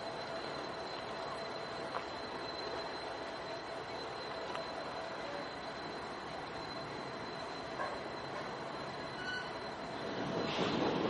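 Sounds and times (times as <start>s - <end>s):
freight cars rolling over bridge: 0.0s - 11.0s.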